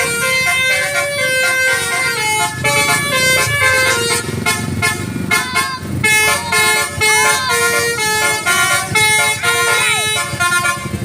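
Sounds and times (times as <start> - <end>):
engine and road noise: 0.0 - 11.0
multi-tone bus horn tune: 0.0 - 11.0.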